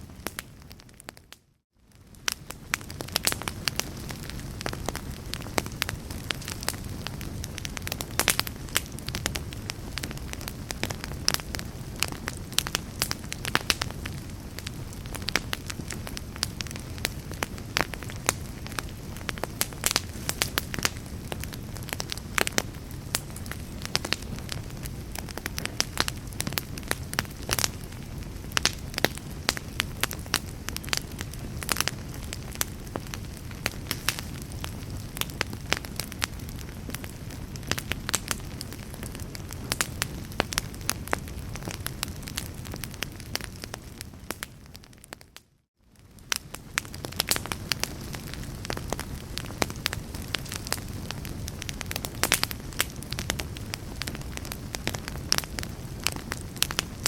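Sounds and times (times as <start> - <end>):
log fire crackling and popping: 0.0 - 57.0.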